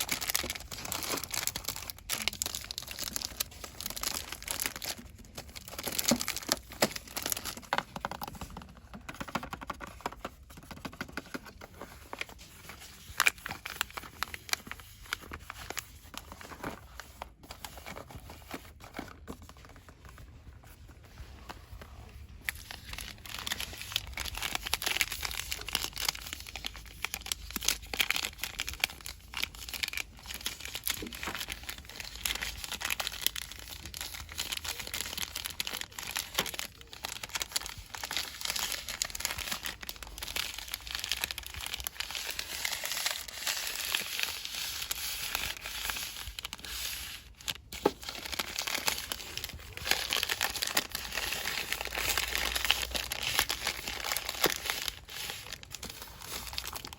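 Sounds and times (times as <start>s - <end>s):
plastic packaging crinkling: 0.0s - 56.9s.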